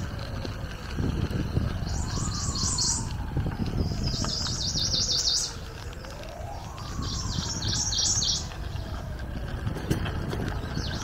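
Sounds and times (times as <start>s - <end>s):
faint wailing siren: 0.0s - 11.0s
songbird singing: 1.3s - 9.2s, 9.9s - 11.0s.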